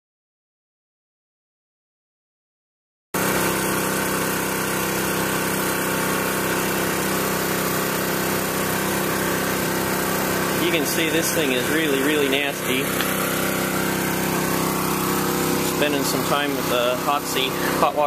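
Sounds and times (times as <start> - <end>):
pressure washer drone: 3.2 - 18.0.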